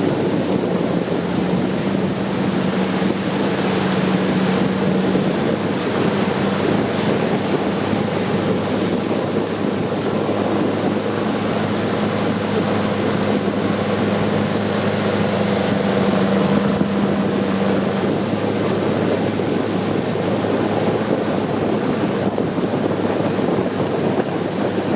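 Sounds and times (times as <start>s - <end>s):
boat engine droning: 0.0s - 24.9s
water rushing: 0.0s - 24.9s
wind buffeting microphone: 0.0s - 24.9s.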